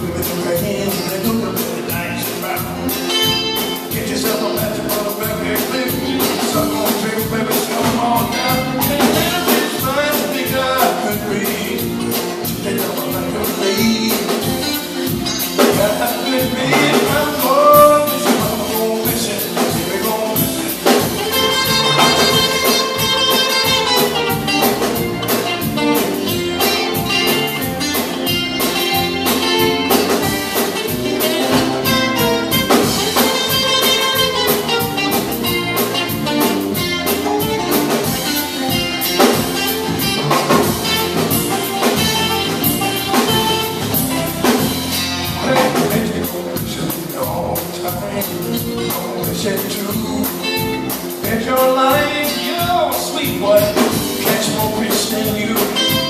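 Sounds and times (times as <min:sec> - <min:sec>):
acoustic guitar: 0:00.0 - 0:56.0
drum kit beat: 0:00.0 - 0:56.0
electric bass: 0:00.0 - 0:56.0.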